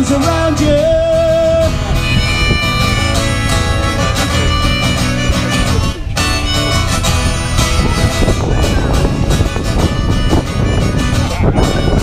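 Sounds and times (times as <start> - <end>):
live band playing: 0.0 - 12.0
harmonica solo: 1.7 - 12.0.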